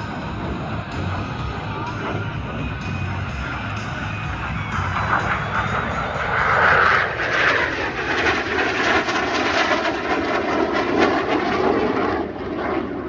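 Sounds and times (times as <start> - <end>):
jet engines passing: 0.0 - 13.0.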